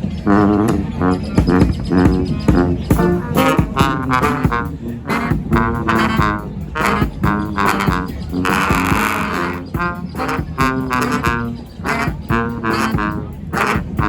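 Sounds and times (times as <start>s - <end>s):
brass band playing: 0.0s - 14.0s
percussion hits: 1.4s - 14.0s.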